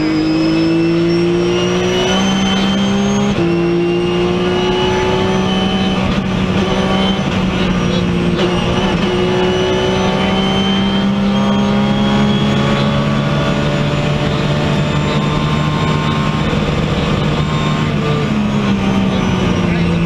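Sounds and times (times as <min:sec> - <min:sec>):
car engine running hard: 0:00.0 - 0:20.0.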